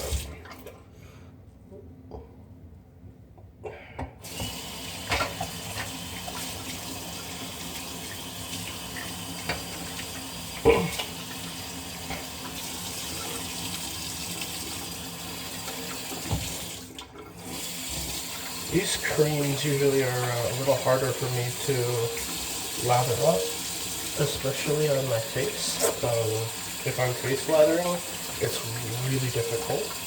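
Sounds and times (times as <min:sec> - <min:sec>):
tap water splashing into sink: 0:04.3 - 0:30.0.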